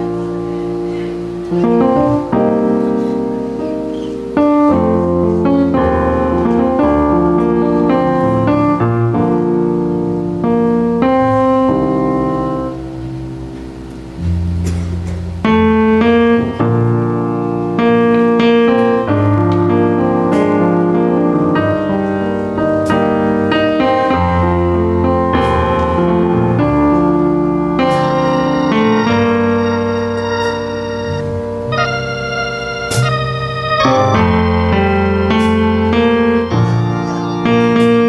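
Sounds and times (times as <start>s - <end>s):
keyboard chords: 0.0s - 38.0s
low bass notes: 0.0s - 38.0s.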